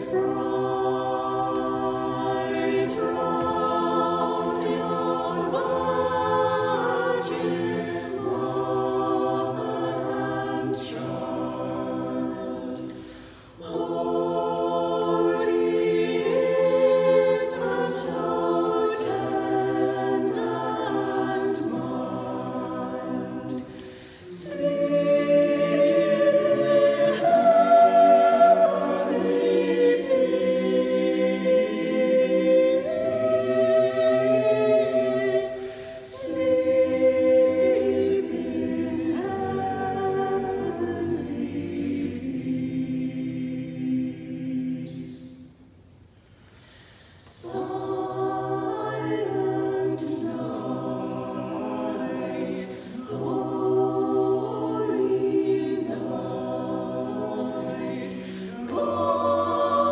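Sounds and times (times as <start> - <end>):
choir singing a carol: 0.0 - 45.7, 46.7 - 59.9.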